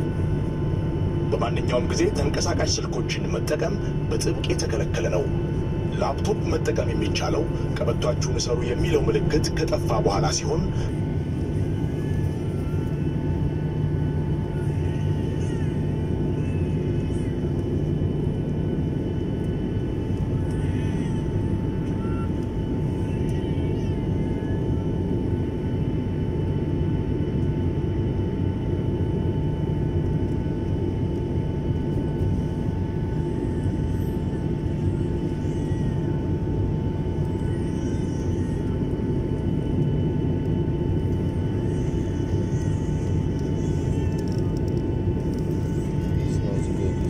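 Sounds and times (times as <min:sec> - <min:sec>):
jet cabin engine roar: 0:00.0 - 0:47.0
steady whine: 0:00.0 - 0:47.0.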